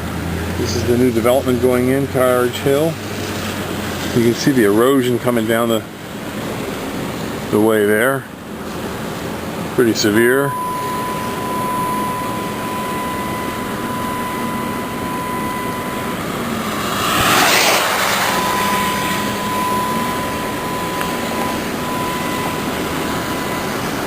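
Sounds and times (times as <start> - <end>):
car road and engine noise: 0.0 - 24.0
thin steady whine: 0.0 - 24.0.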